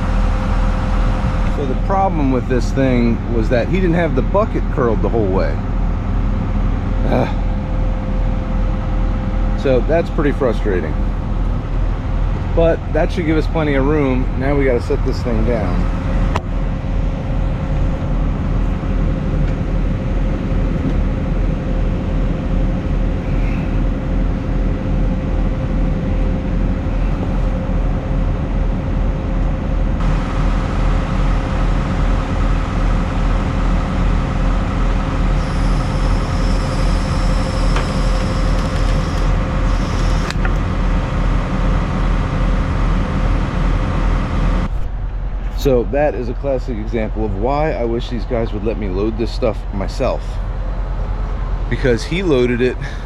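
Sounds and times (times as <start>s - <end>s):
excavator diesel engine throbbing: 0.0s - 53.0s.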